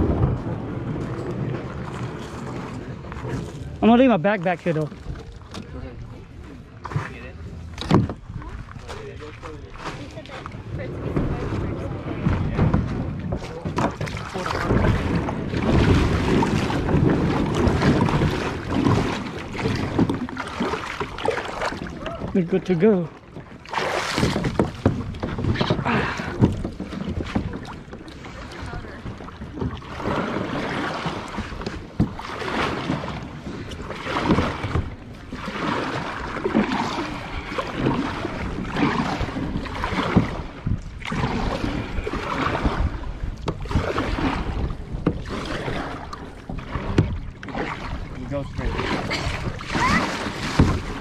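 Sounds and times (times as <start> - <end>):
kayak paddle splashing: 0.0 - 51.0.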